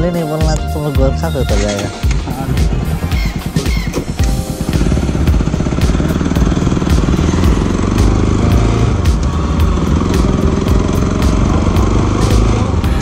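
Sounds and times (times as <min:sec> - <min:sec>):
background music with drum beat: 0:00.0 - 0:13.0
motorcycle engine riding off: 0:02.1 - 0:13.0.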